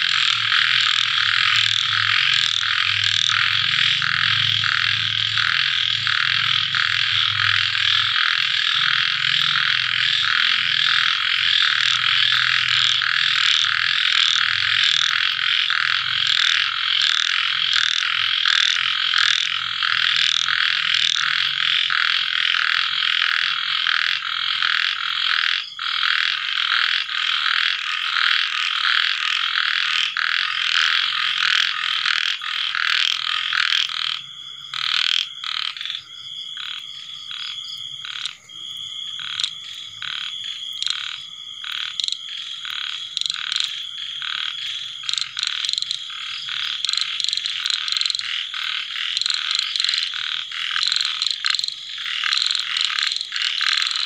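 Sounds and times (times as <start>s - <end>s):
frogs calling: 0.0s - 54.0s.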